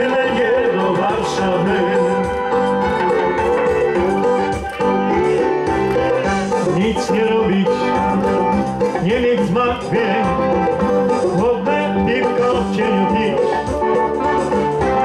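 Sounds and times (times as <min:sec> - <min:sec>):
lively instrumental dance music: 0:00.0 - 0:15.0.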